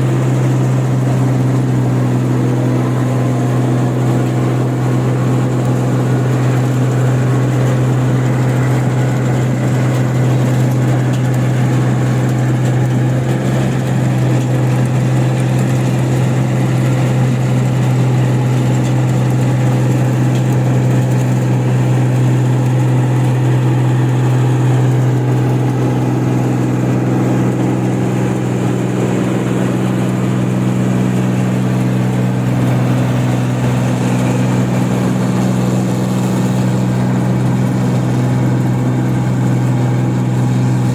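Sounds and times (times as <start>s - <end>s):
machine engine droning: 0.0s - 40.9s.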